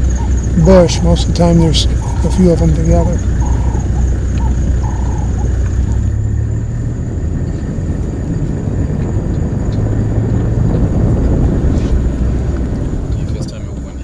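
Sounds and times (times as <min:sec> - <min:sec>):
road and wind noise: 0:00.0 - 0:14.0
truck engine rumble: 0:00.0 - 0:14.0.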